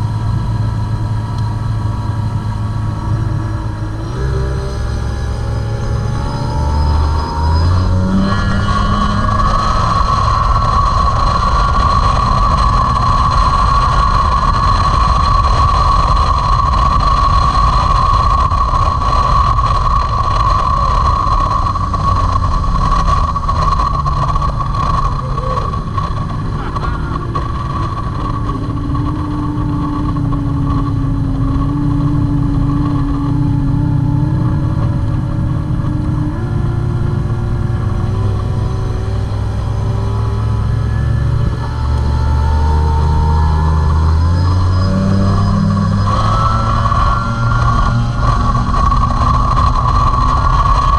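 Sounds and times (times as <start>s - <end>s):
outboard boat engine running: 0.0s - 8.0s, 9.3s - 50.9s.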